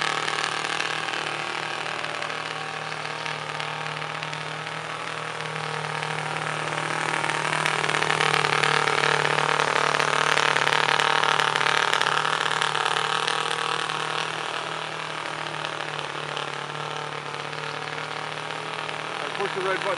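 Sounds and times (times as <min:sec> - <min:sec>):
model boat engine running: 0:00.0 - 0:19.9.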